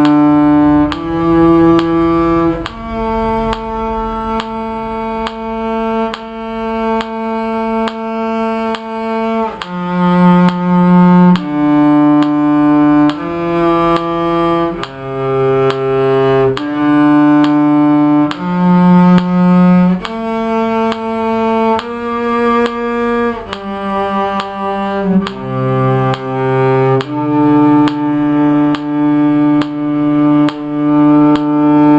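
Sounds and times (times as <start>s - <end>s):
low bowed string instrument: 0.0s - 31.9s
steady click: 0.0s - 31.9s.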